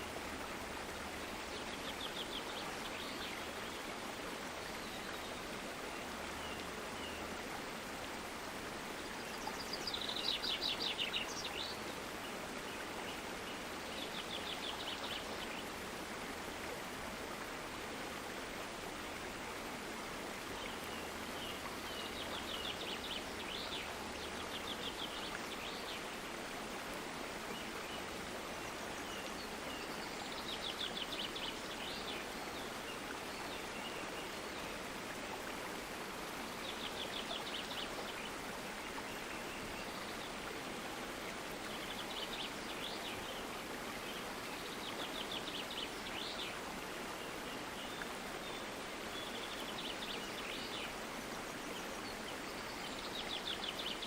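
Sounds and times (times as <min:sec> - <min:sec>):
stream water running: 0:00.0 - 0:54.0.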